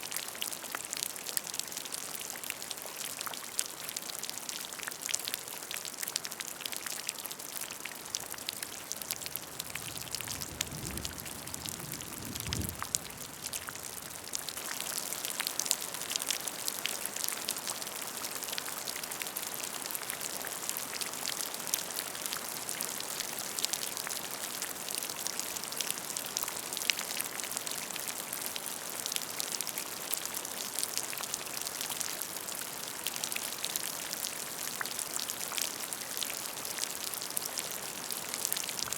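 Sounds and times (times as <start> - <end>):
rain splashing into puddle: 0.0 - 38.9.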